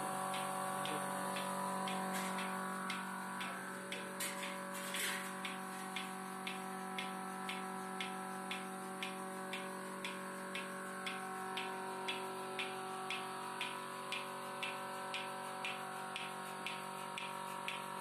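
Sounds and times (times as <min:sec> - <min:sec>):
pulsator ticking: 0:00.0 - 0:18.0
vacuum pump motor humming: 0:00.0 - 0:18.0.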